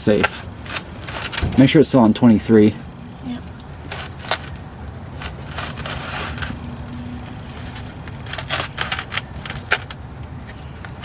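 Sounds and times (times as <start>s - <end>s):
oil pan scraping along ground: 0.1s - 11.0s.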